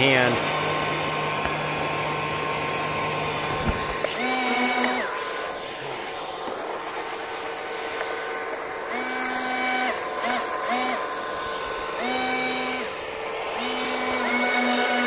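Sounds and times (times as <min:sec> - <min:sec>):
fan motors whining: 0:00.0 - 0:15.0
higher motor whine: 0:00.0 - 0:15.0.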